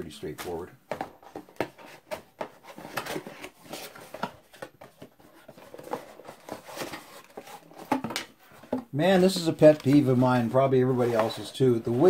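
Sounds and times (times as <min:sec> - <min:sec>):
cardboard rustling and scraping: 0:00.5 - 0:12.0.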